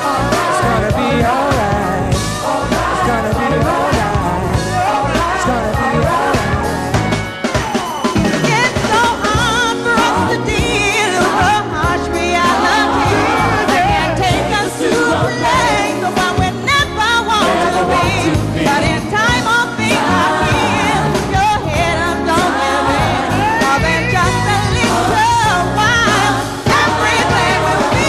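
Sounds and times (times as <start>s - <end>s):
bass and drums: 0.0s - 28.0s
voices singing gospel: 0.0s - 28.0s.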